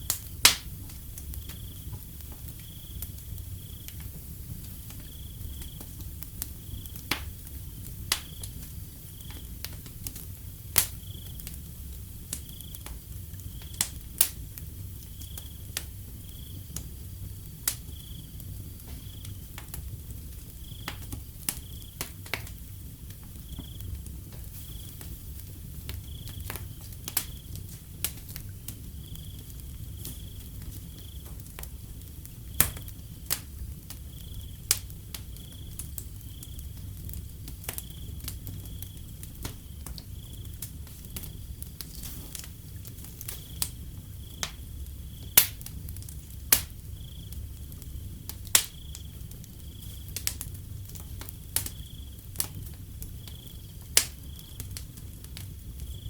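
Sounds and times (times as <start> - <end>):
cricket chirping: 0.0 - 9.8, 10.8 - 22.6, 23.3 - 27.8, 28.7 - 31.5, 32.3 - 56.0
wood fire crackling: 0.0 - 56.0.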